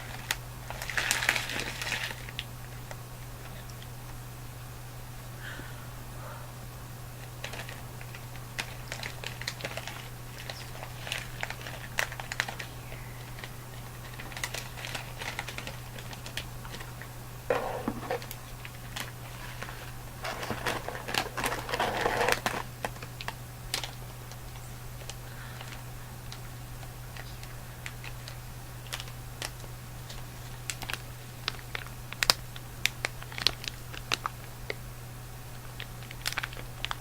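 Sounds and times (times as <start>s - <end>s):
candy packaging crinkling: 0.0s - 3.9s, 7.2s - 34.8s, 35.5s - 37.0s
steady low hum: 0.0s - 37.0s.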